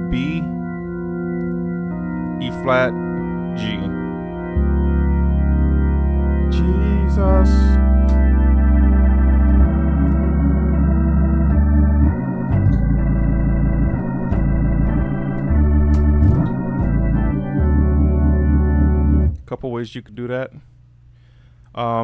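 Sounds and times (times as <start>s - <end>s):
organ bass pedal notes: 0.0s - 19.9s
organ chords: 0.0s - 19.9s.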